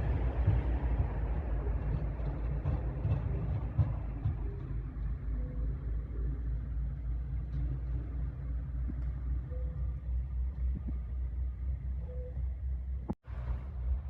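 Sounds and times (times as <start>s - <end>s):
diesel train rumble: 0.0s - 14.0s.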